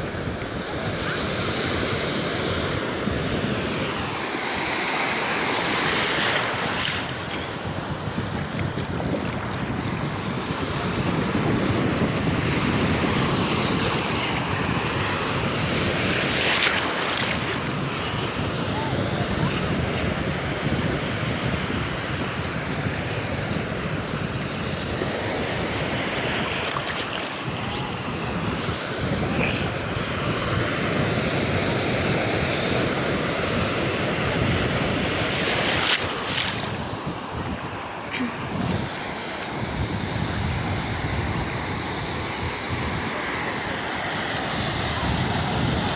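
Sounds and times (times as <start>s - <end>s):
waves breaking on a beach: 0.0s - 45.9s
wind buffeting microphone: 0.0s - 45.9s.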